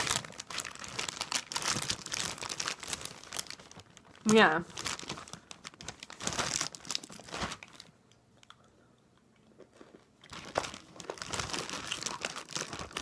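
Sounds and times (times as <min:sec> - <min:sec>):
crunching and chewing candy: 0:00.0 - 0:13.0.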